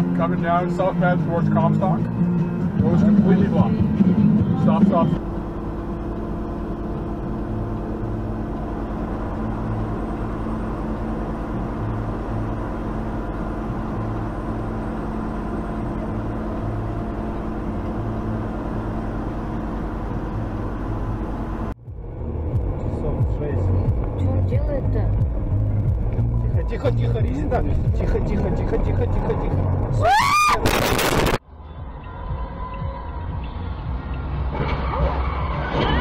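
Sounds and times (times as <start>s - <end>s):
diesel truck engine humming: 0.0s - 36.0s.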